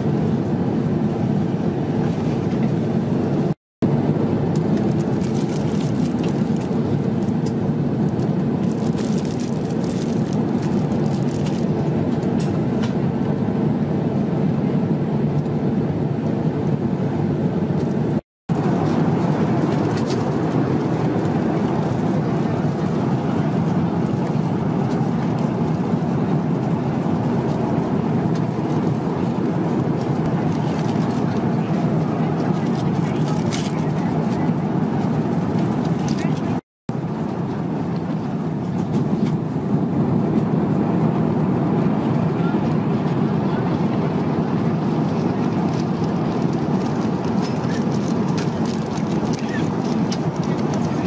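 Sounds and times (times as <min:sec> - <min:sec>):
airplane cabin noise: 0:00.0 - 0:51.0.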